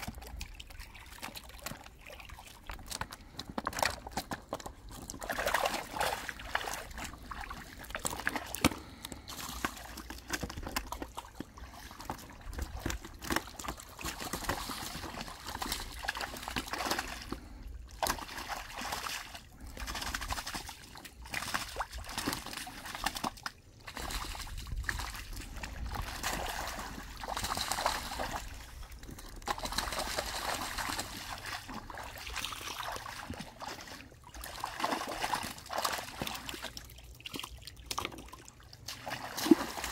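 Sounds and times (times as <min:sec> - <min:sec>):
muddy water sloshing and splashing: 0:00.0 - 0:39.9.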